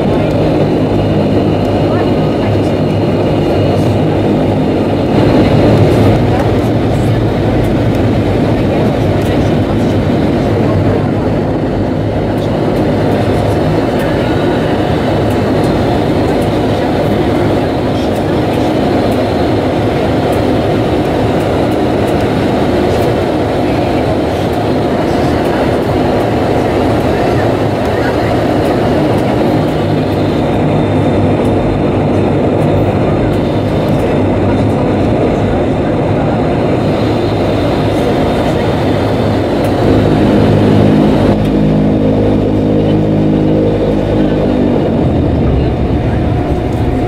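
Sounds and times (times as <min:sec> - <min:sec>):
turboprop engines droning: 0:00.0 - 0:47.0.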